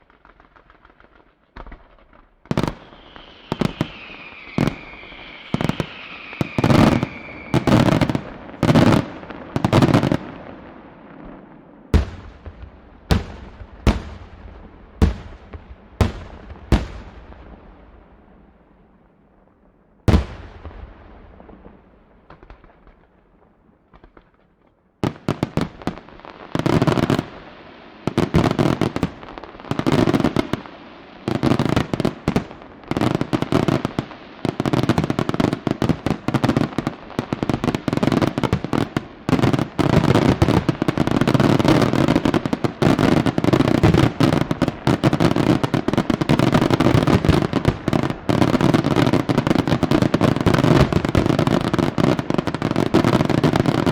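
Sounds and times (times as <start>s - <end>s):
fireworks crackling volleys: 0.0s - 53.9s.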